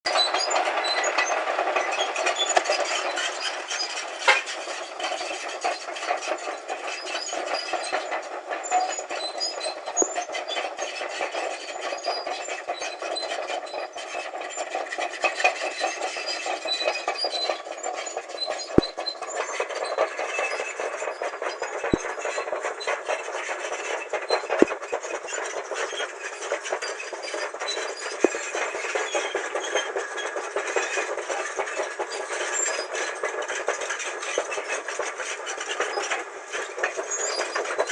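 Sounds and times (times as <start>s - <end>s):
steel tracks clattering: 0.1s - 37.9s.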